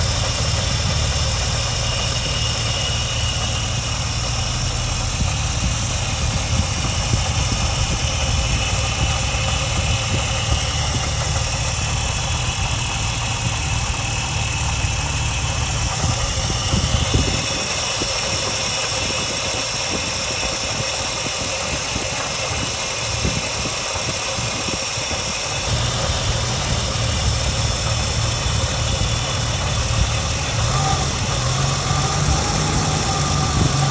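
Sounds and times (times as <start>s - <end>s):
high whistling and grinding: 0.0s - 22.0s, 23.1s - 33.9s
car engine running: 0.0s - 33.9s.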